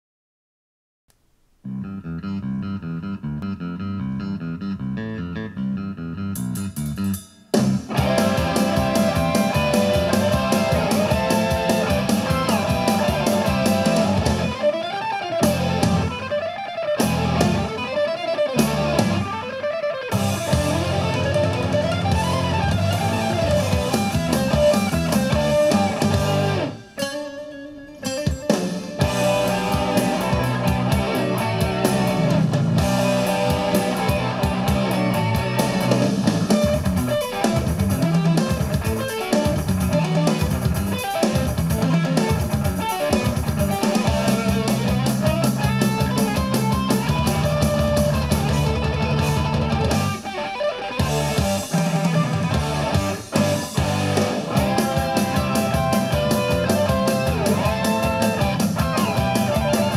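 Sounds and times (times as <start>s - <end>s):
rock music over loudspeakers: 2.8s - 59.9s.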